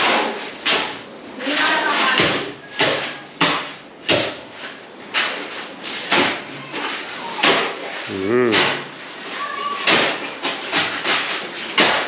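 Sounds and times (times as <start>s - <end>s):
shovels scraping wet concrete: 0.0s - 12.0s.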